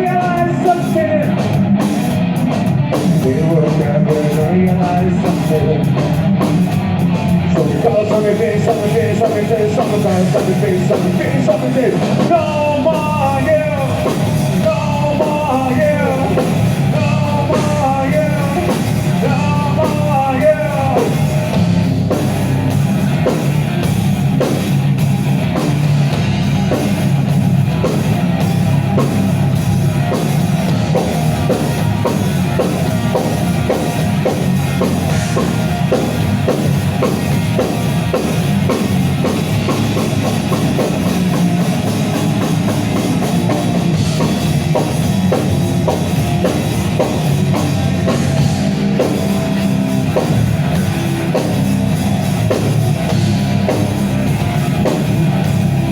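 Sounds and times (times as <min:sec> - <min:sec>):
bass guitar: 0:00.0 - 0:55.9
drum kit beat: 0:00.0 - 0:55.9
electric guitar: 0:00.0 - 0:55.9.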